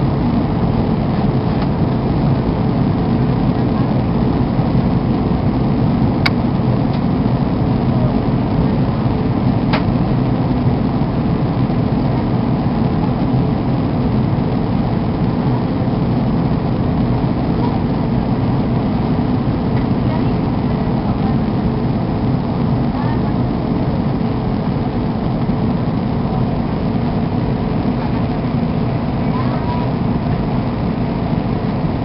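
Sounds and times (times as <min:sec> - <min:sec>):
faint steady hum: 0:00.0 - 0:32.0
jet engine and airflow rumble: 0:00.0 - 0:32.0.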